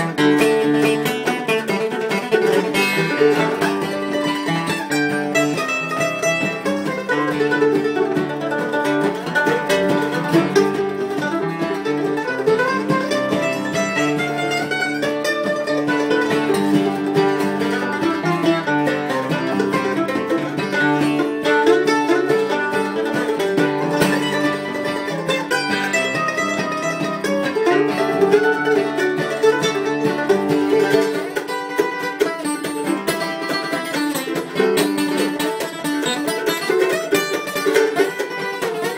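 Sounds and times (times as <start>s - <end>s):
acoustic guitar strumming chords: 0.0s - 38.9s
mandolin plucked melody: 0.0s - 38.9s.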